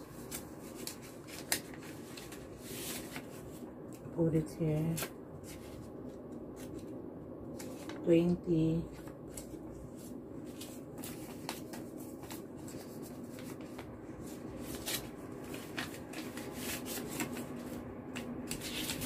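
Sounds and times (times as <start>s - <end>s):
paper crinkling and rustling: 0.0s - 4.1s, 4.8s - 8.1s, 8.8s - 19.0s
faint steady hum: 0.0s - 19.0s.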